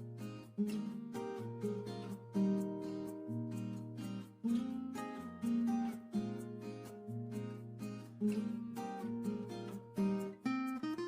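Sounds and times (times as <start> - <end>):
plucked acoustic guitar chords: 0.0 - 11.0.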